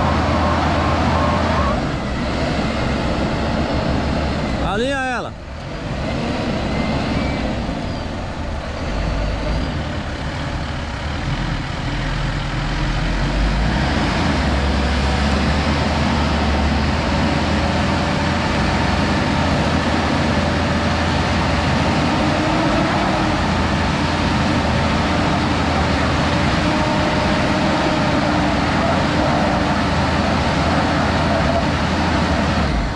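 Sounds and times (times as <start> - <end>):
engines running hard: 0.0 - 32.9.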